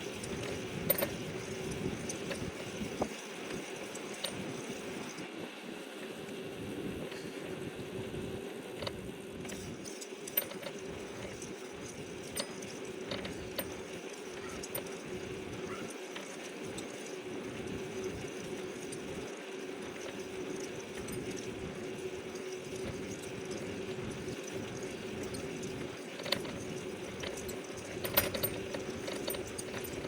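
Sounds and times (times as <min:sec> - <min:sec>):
electric bike hum: 0:00.0 - 0:30.0
sharp clicks and rattles: 0:00.1 - 0:05.2, 0:08.8 - 0:30.0.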